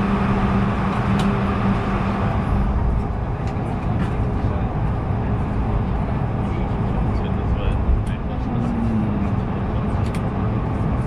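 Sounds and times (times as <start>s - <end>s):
airplane cabin rumble and hiss: 0.0s - 11.0s.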